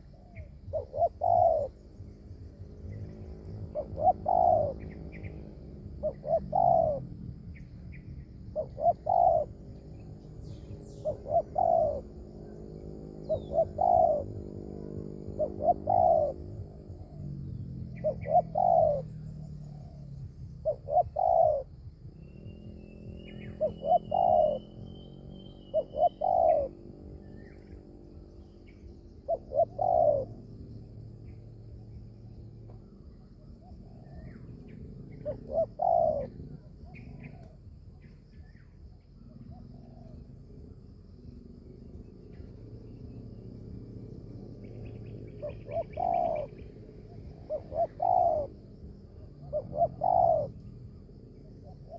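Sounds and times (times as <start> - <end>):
doves cooing: 0.0 - 51.9
small bird chirping: 0.0 - 51.9.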